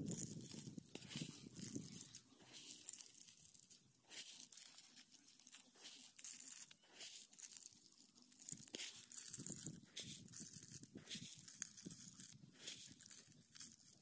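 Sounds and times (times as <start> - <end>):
hand rustling soil: 0.0 - 14.0.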